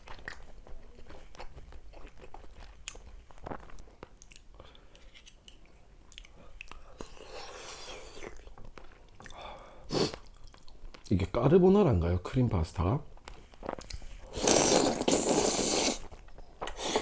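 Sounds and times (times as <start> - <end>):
person chewing crunchy food: 0.0 - 11.1, 13.1 - 17.0.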